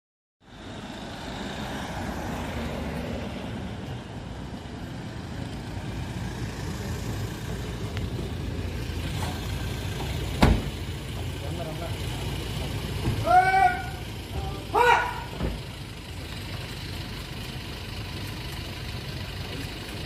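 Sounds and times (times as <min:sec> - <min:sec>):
car engine rumbling: 0:00.4 - 0:20.0.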